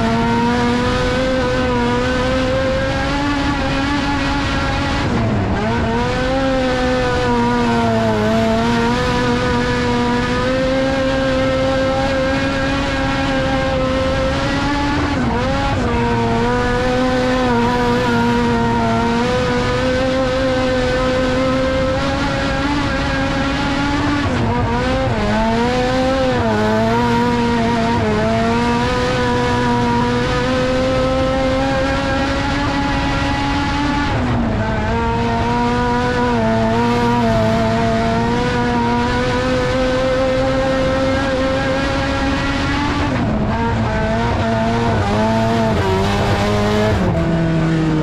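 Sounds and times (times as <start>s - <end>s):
race car engine at high revs: 0.0s - 48.0s.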